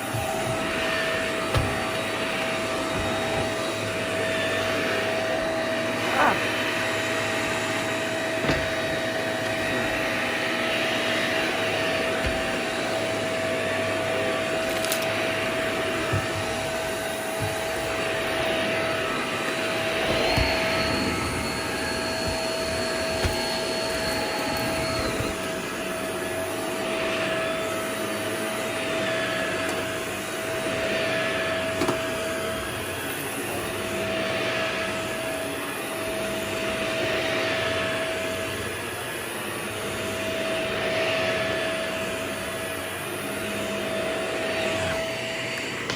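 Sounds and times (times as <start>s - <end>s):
vacuum cleaner motor whine: 0.0s - 45.9s.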